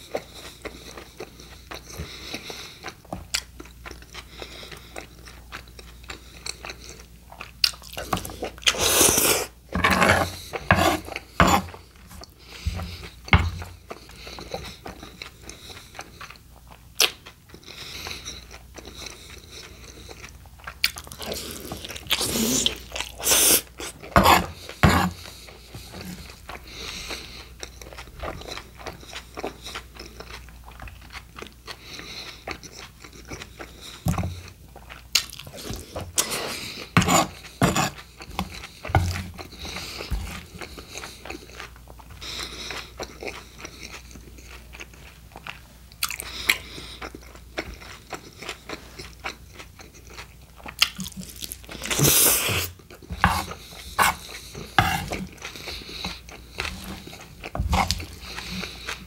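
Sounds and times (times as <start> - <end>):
close-miked chewing: 0.0 - 59.0.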